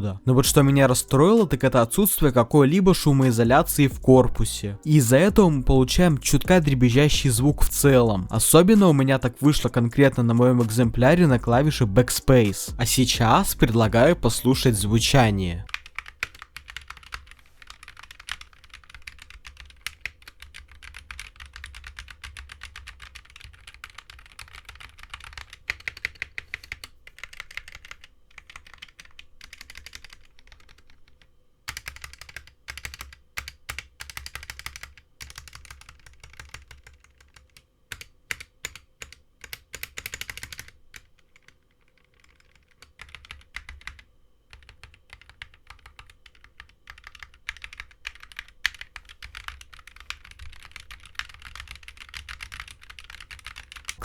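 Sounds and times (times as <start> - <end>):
keyboard typing: 0.2 - 54.0.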